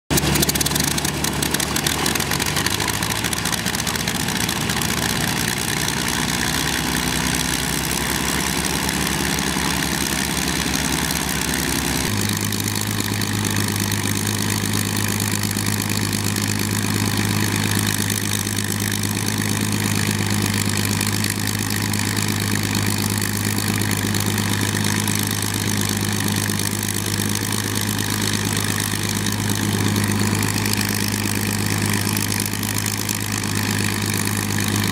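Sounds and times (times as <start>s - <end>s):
aircraft piston engines idling: 0.1s - 34.9s.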